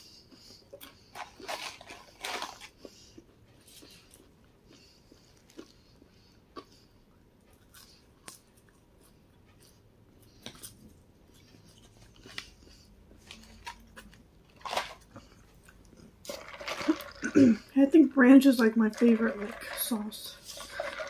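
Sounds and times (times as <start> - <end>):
person chewing french fries: 0.0 - 17.7, 20.4 - 21.0.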